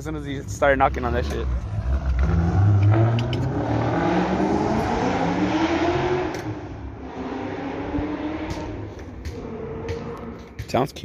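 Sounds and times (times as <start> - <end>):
car engine accelerating hard: 0.1 - 10.4.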